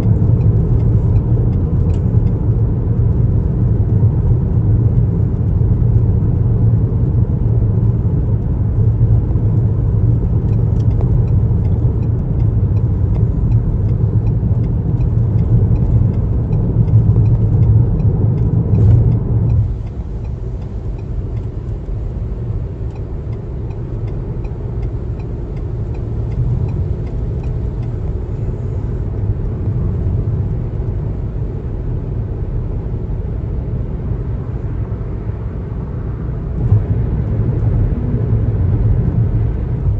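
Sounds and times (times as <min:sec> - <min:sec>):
car road rumble: 0:00.0 - 0:39.9.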